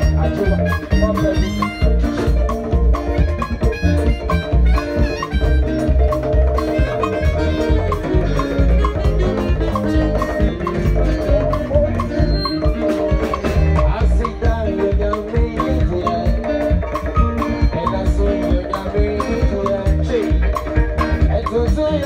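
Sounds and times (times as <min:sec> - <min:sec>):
bass and drums: 0:00.0 - 0:22.0
keyboard notes: 0:00.0 - 0:22.0
live band playing gospel music: 0:00.0 - 0:22.0.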